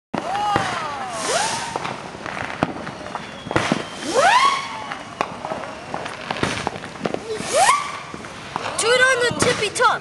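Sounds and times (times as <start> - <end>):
firework pops: 0.2 - 10.0
whistling firework: 0.2 - 10.0.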